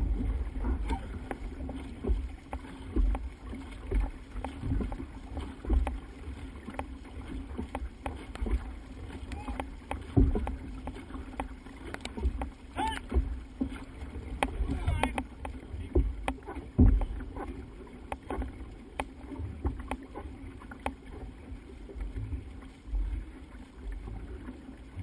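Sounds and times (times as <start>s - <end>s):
paddle splashes: 0.0s - 25.0s
water rushing past hull: 0.0s - 25.0s.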